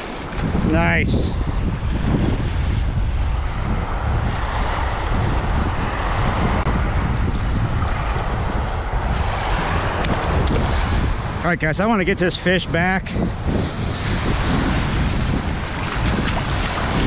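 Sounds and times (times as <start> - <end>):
surf breaking: 0.0 - 12.0, 13.2 - 17.0
wind buffeting microphone: 0.0 - 17.0.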